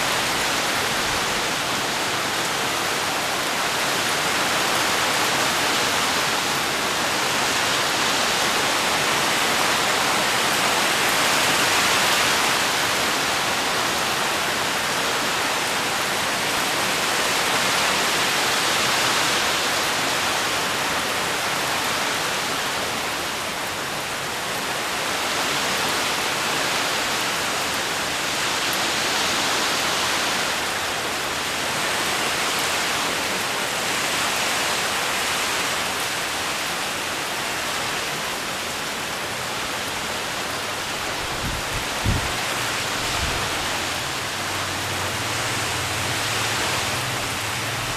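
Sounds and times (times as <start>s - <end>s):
rain on foliage: 0.0s - 47.9s.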